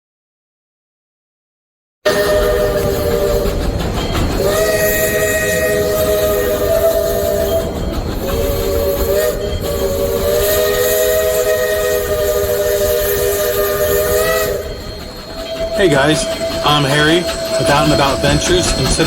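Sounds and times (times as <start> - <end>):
steam locomotive chime whistle: 2.1 - 19.0.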